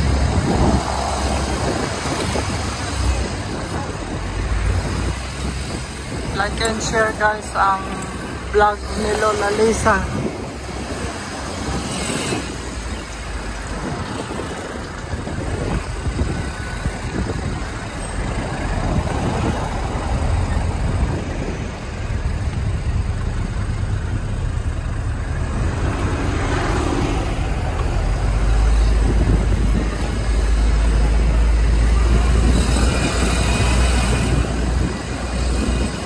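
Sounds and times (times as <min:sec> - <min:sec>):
bus engine running: 0:00.0 - 0:36.0
road traffic: 0:00.0 - 0:36.0.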